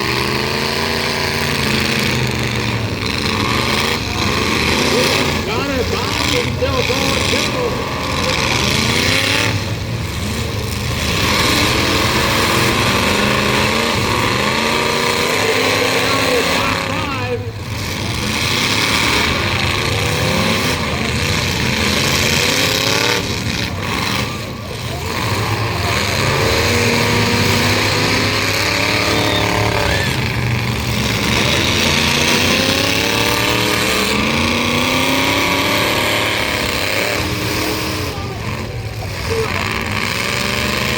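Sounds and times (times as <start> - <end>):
truck engines revving: 0.0 - 40.9.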